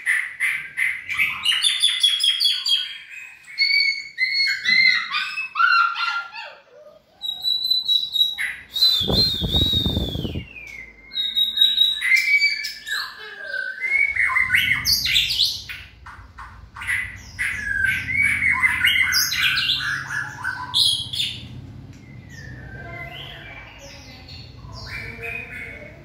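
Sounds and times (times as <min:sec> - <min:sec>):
birds singing whistled phrases: 0:00.0 - 0:06.1, 0:07.2 - 0:26.0.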